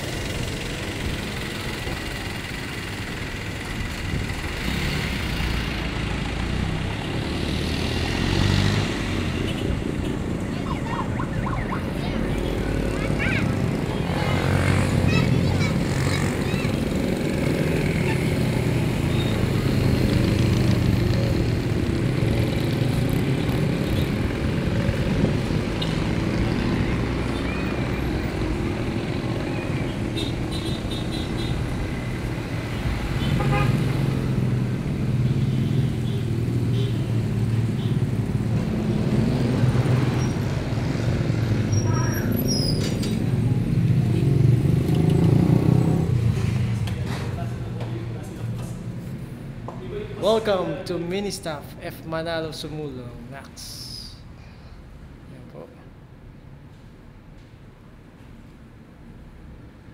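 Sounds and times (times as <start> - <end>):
vehicle engines humming: 0.0 - 55.3.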